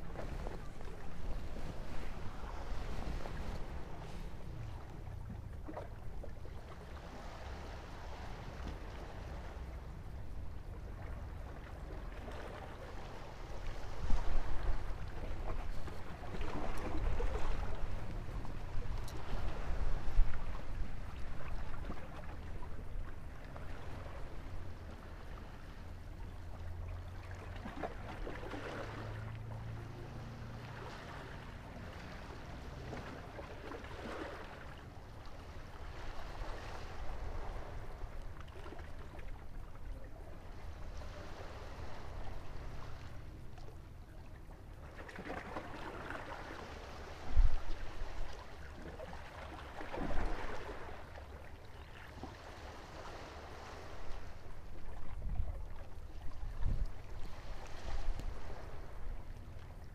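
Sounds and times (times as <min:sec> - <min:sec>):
low steady rumble: 0:00.0 - 0:59.9
waves lapping against rocks: 0:00.0 - 0:59.9.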